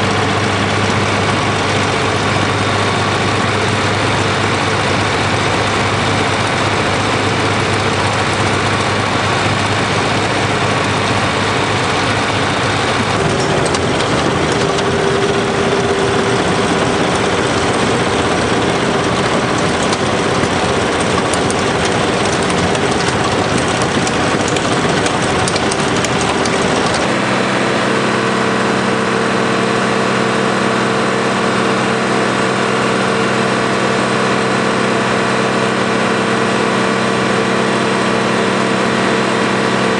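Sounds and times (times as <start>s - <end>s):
feed mixer machine drone: 0.0s - 39.9s.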